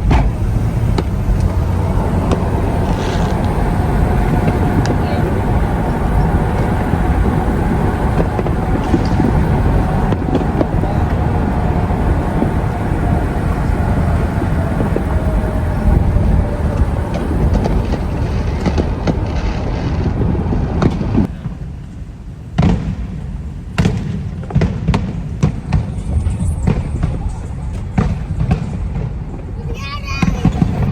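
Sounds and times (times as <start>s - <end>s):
fireworks bangs: 0.0s - 30.9s
low rumble: 0.0s - 30.9s.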